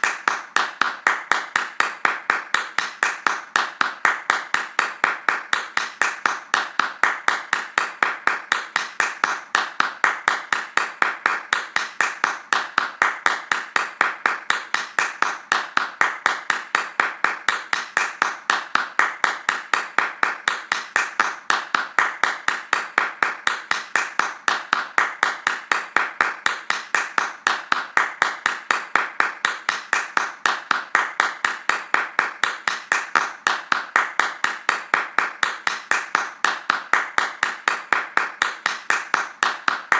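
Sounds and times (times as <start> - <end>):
hand clapping: 0.0 - 39.9.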